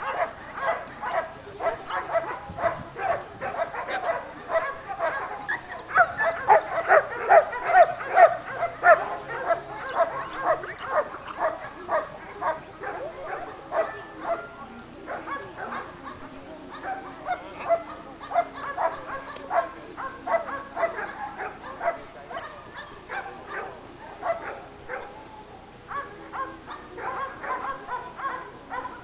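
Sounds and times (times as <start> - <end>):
dog barking: 0.0 - 5.3, 5.9 - 14.4, 15.1 - 25.1, 25.9 - 29.0.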